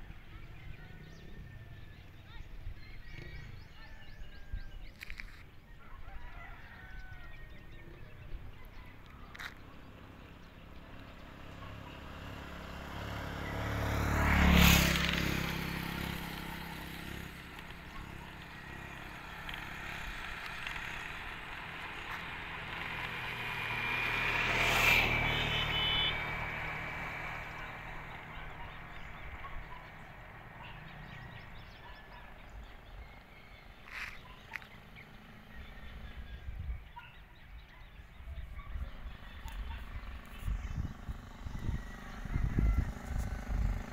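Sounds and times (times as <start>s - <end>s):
road vehicles passing: 0.0s - 43.9s.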